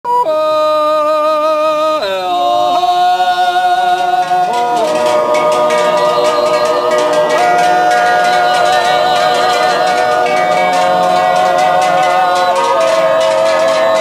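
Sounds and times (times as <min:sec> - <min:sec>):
wordless yodel singing: 0:00.1 - 0:14.0
cowbells clanking: 0:02.3 - 0:14.0.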